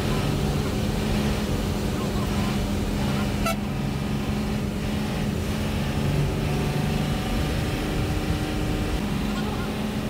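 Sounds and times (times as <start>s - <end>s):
bus engine drone: 0.0s - 10.0s.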